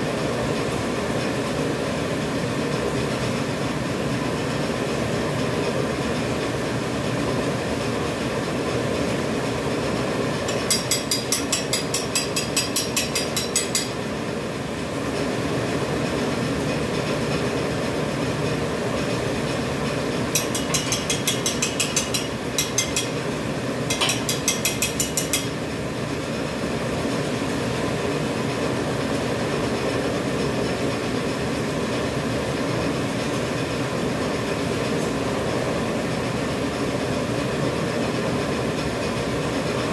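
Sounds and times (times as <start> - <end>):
machine humming and clattering: 0.0 - 39.9.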